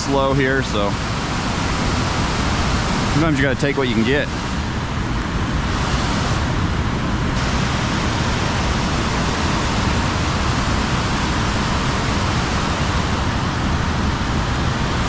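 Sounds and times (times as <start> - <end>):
water rushing over dam: 0.0 - 15.0.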